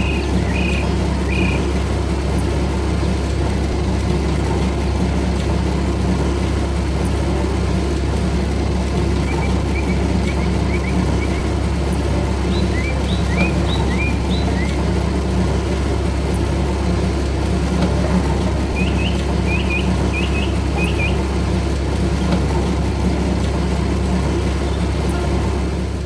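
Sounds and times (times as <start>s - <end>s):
heavy vehicle engine idling: 0.0s - 26.0s.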